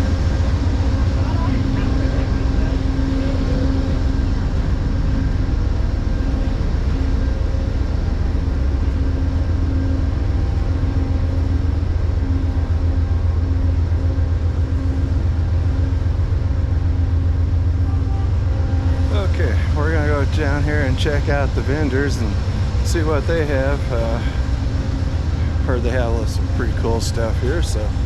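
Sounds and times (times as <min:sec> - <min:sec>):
faint pulsing hum: 0:00.0 - 0:28.0
large engine rumbling: 0:00.0 - 0:28.0.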